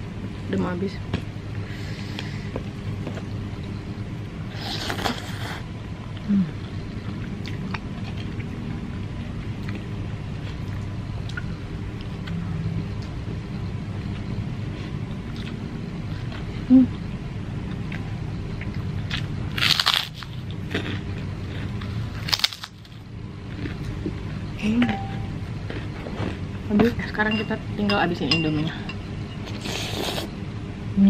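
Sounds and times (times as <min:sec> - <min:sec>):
low background hum: 0:00.0 - 0:31.0.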